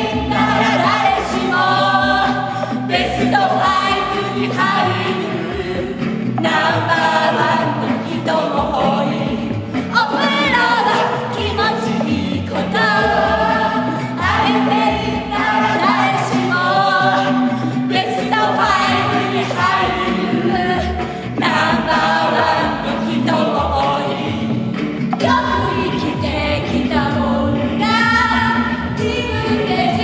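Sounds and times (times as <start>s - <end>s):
men and women singing in chorus: 0.0s - 30.0s.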